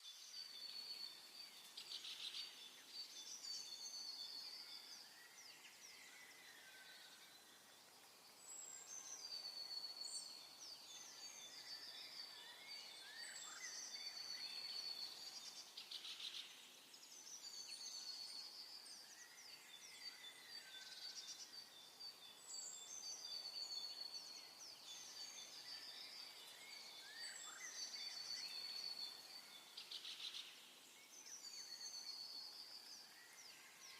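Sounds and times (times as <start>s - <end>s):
faint songbirds trilling: 0.0s - 33.9s.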